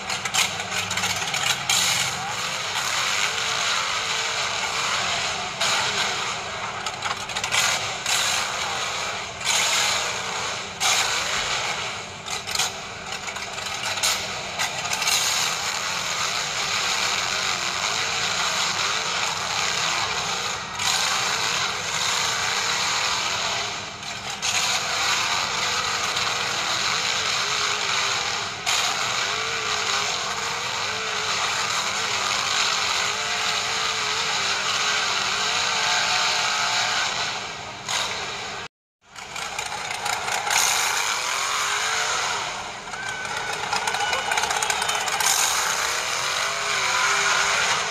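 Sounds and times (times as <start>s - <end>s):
gears grinding and clicking: 0.0s - 47.9s
toy car electric motor whine: 0.0s - 47.9s.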